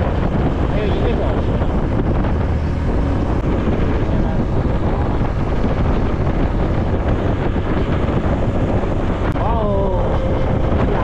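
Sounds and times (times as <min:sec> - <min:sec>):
motorcycle engine: 0:00.0 - 0:11.0
road noise: 0:00.0 - 0:11.0
wind on microphone: 0:00.0 - 0:11.0.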